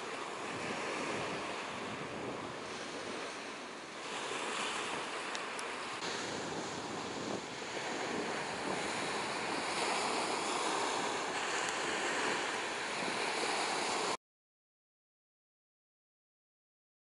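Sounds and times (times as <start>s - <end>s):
waves washing on shore: 0.0s - 14.2s
wind on microphone: 0.0s - 14.2s.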